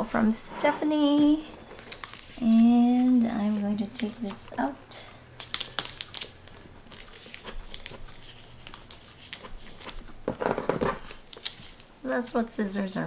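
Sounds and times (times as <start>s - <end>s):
packaging crinkling and rustling: 0.6s - 12.0s.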